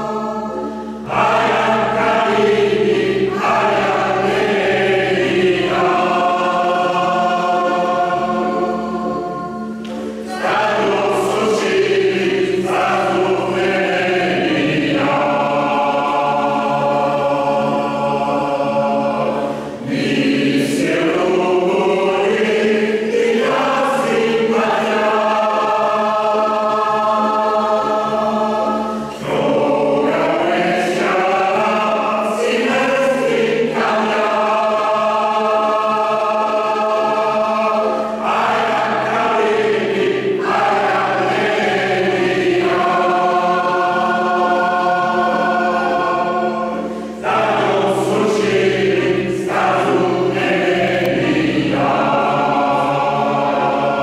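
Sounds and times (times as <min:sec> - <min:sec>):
mixed choir singing in parts: 0:00.0 - 0:54.0.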